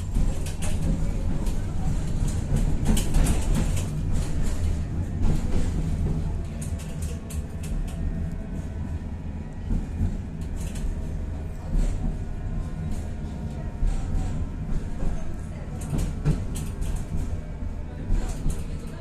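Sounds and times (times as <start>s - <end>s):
tram rumbling on track: 0.0s - 19.0s.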